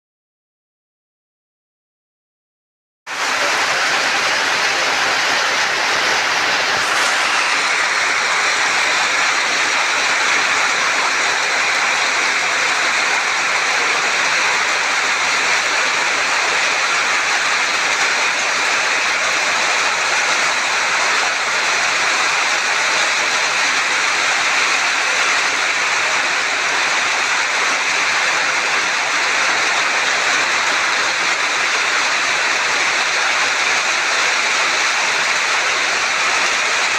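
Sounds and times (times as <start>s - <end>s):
rain falling: 3.1s - 36.9s.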